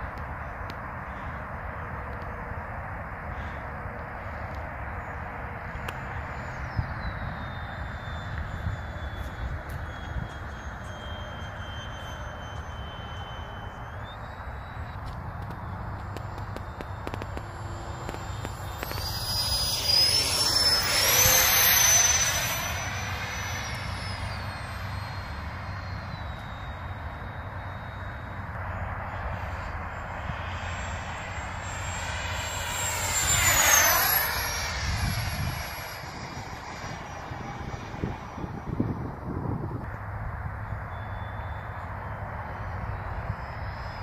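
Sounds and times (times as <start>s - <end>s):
model jet fan whine passing: 0.0s - 44.0s.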